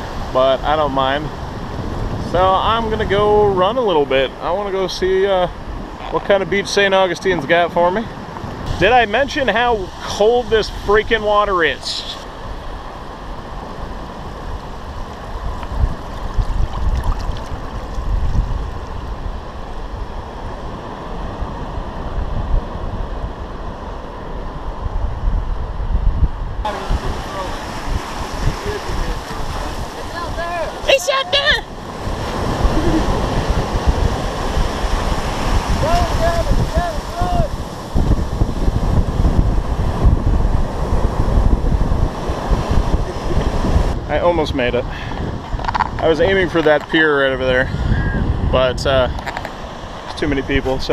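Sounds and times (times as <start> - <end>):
ocean surf washing: 0.0 - 50.9
wind buffeting microphone: 0.0 - 50.9.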